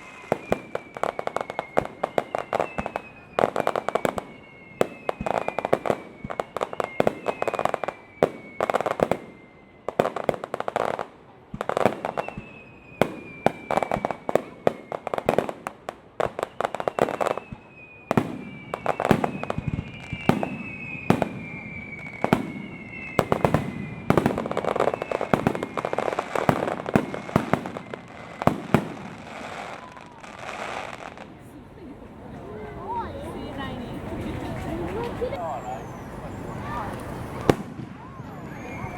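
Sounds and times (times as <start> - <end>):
firework whistles dropping in pitch: 0.0 - 11.0, 11.6 - 31.2, 35.3 - 38.9
fireworks bangs and crackling: 0.0 - 31.7, 32.3 - 38.9.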